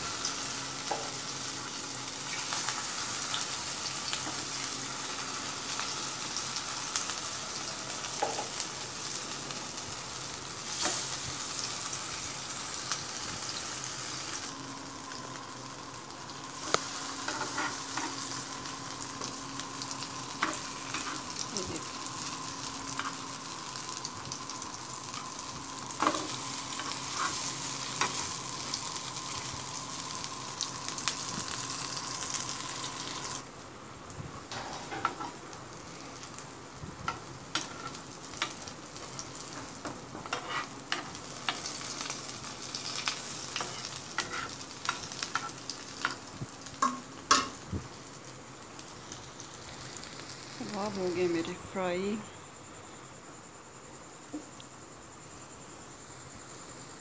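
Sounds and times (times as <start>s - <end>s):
faint steady hum: 0.0s - 57.0s
food sizzling in hot oil: 0.0s - 57.0s.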